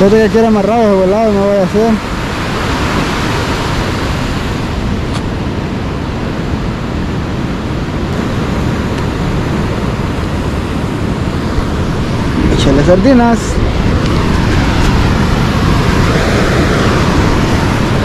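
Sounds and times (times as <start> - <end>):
breaking surf: 0.0 - 18.0
wind on microphone: 0.0 - 18.0.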